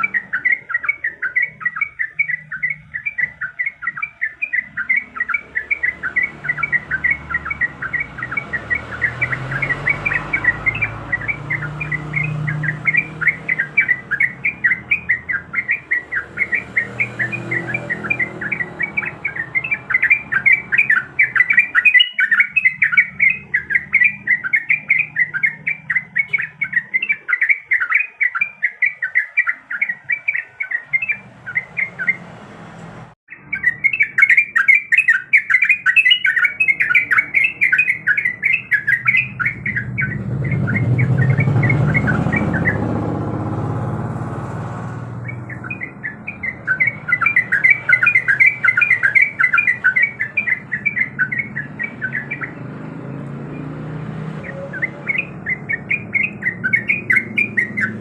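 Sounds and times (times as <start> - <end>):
bird chattering high notes: 0.0 - 32.3, 33.3 - 44.2, 45.1 - 58.0.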